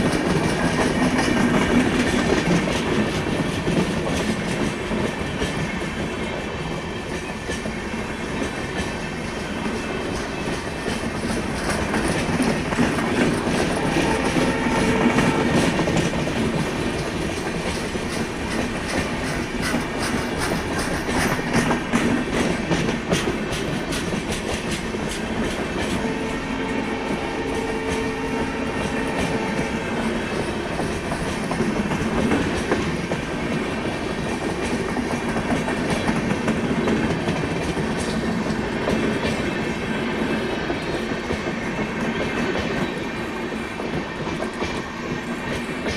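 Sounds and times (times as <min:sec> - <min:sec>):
train wheels clattering over rail joints: 0:00.0 - 0:45.9.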